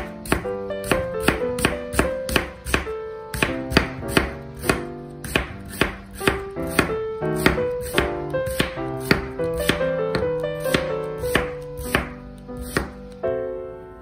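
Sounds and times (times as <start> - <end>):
knife slicing on cutting board: 0.0 - 13.2
soft background music: 0.0 - 14.0.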